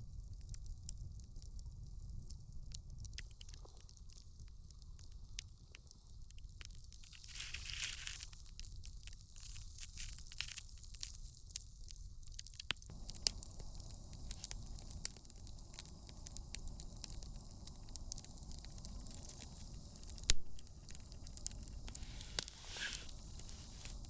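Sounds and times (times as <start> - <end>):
campfire crackling and popping: 0.1 - 24.0.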